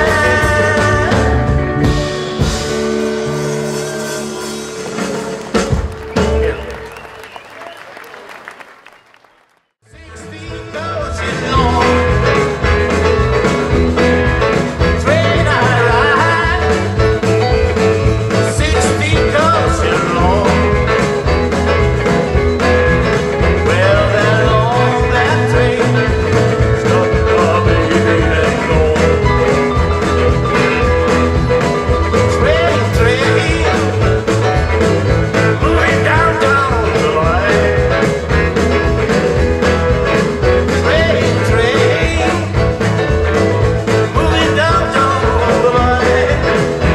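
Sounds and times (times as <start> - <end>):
steady drum beat: 0.0 - 7.0, 9.9 - 46.9
electric guitar rock band: 0.0 - 7.4, 9.9 - 46.9.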